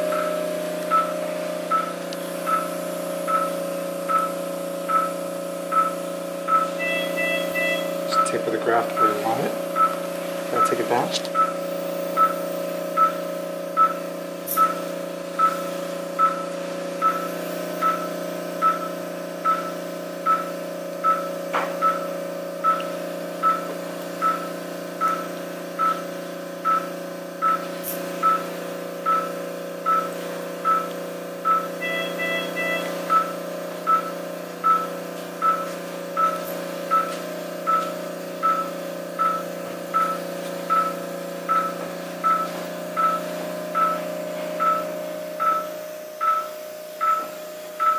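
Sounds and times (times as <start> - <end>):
equipment hum: 0.0 - 47.9
patient monitor beeping: 0.0 - 47.9.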